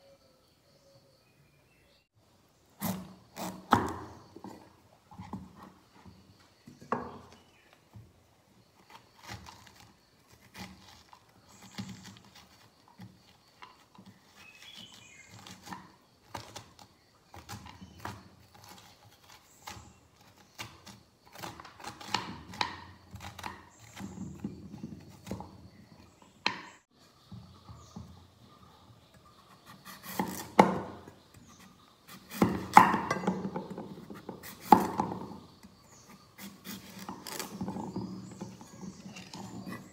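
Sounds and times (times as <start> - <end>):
knife cutting pumpkin on board: 2.8 - 7.6, 8.8 - 26.8, 29.4 - 39.9.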